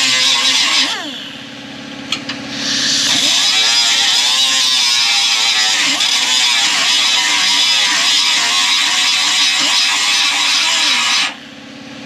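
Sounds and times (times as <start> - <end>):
disc grinder grinding metal: 0.0 - 1.2, 2.7 - 11.4.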